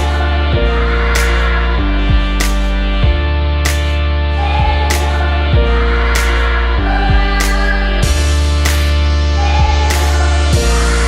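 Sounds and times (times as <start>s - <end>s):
background music with sustained chords: 0.0s - 11.0s.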